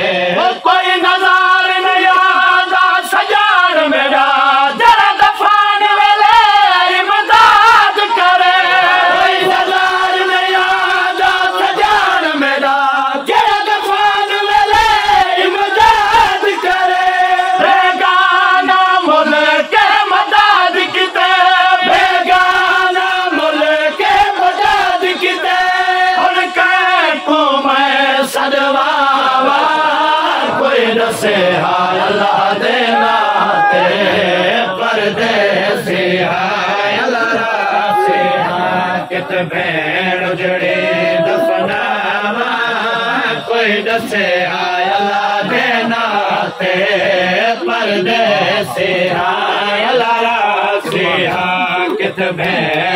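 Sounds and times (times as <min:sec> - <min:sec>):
men chanting a lament: 0:00.0 - 0:52.9.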